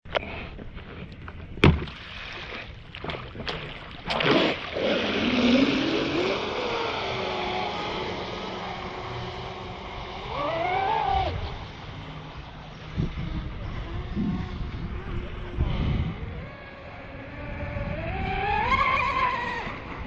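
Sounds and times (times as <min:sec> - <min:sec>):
boat motor whine: 0:00.1 - 0:20.0.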